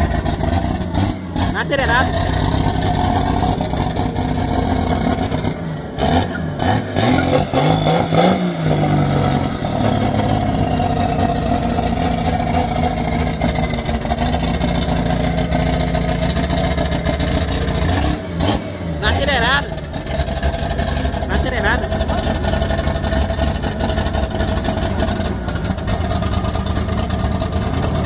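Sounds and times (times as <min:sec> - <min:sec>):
vehicle engine running and revving: 0:00.0 - 0:28.0.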